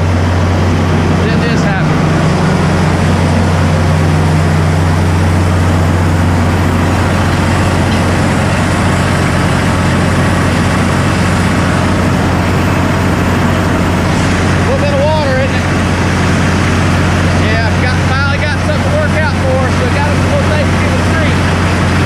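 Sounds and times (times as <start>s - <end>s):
drilling rig engine running: 0.0s - 22.0s.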